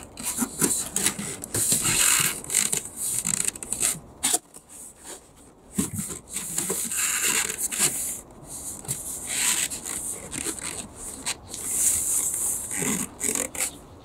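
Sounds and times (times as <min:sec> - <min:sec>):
foam board scraping against wood: 0:00.2 - 0:13.8.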